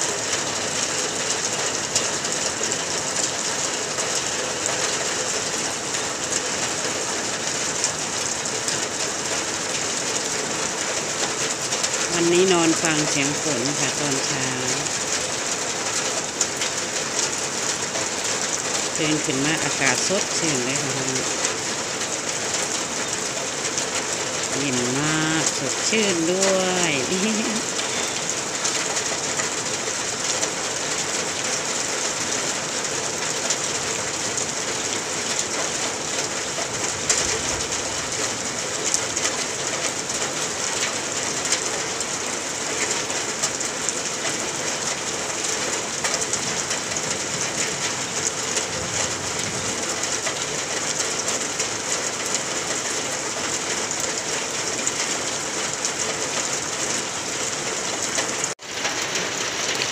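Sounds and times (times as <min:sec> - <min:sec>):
rain falling on grass: 0:00.0 - 0:59.9.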